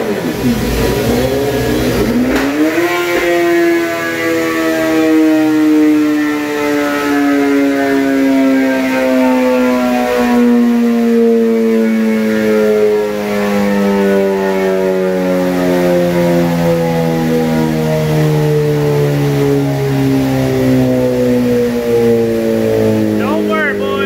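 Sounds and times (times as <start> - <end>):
dyno roller whine falling in pitch: 0.0 - 24.0.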